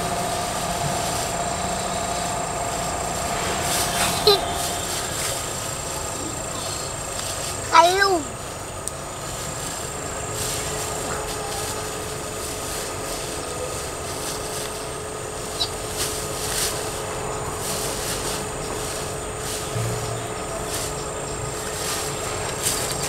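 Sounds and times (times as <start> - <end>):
rustling and scraping: 0.0 - 8.1, 9.2 - 23.0
outdoor background noise: 0.0 - 23.0.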